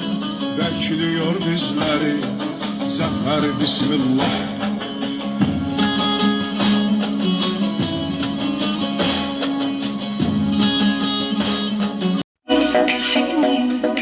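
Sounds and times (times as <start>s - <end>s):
plucked strings: 0.0s - 13.0s.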